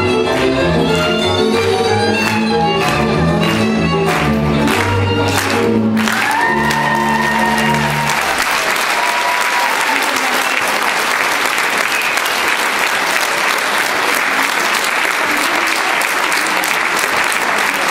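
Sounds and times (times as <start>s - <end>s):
audience applauding: 0.0s - 17.9s
folk dance music: 0.0s - 17.9s.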